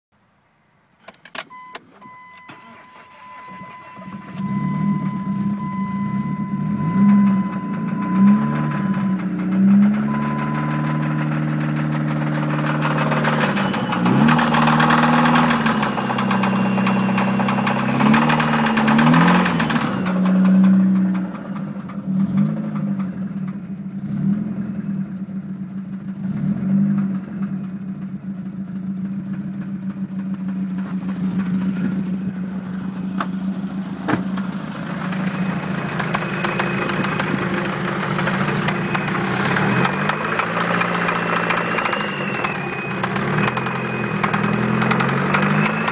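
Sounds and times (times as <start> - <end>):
engine revving: 2.5 - 25.0, 26.2 - 27.5, 30.7 - 45.9
car engine idling with knock: 4.2 - 45.9.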